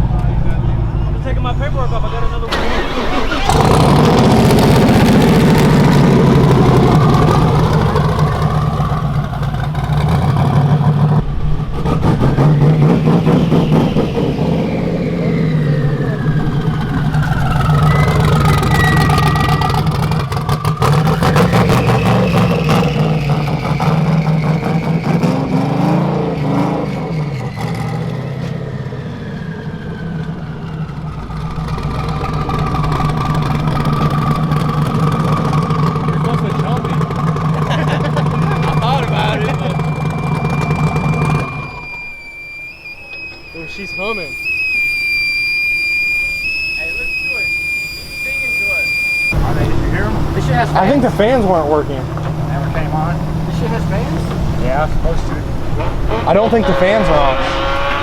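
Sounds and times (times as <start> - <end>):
car engine running: 0.0 - 42.0, 46.8 - 58.0
whine rising and falling: 0.8 - 58.0.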